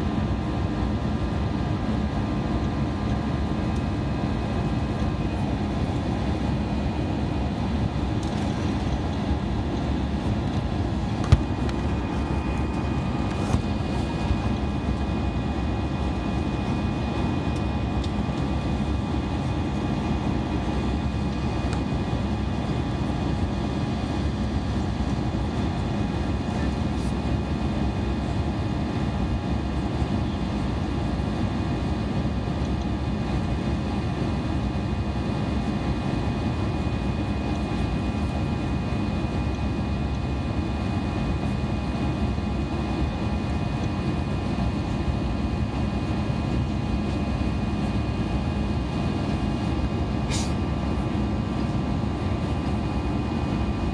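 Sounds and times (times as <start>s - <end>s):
jet engine drone in cabin: 0.0s - 53.9s
thin steady whine: 0.0s - 53.9s.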